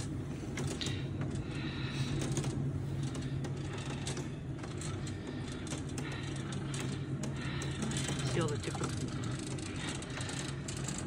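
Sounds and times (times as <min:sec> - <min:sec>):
faint rattle: 0:00.0 - 0:11.0.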